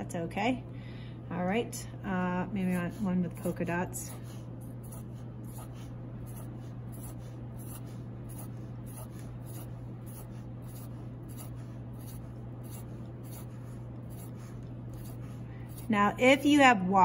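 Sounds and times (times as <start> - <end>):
steady low hum: 0.0 - 17.0
marker drawing on paper: 2.7 - 16.6.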